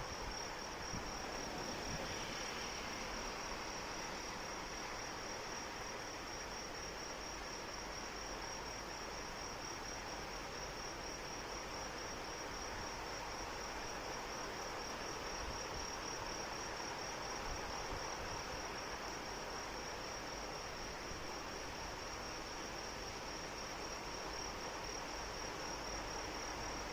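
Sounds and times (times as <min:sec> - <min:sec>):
steady rain: 0:00.0 - 0:26.9.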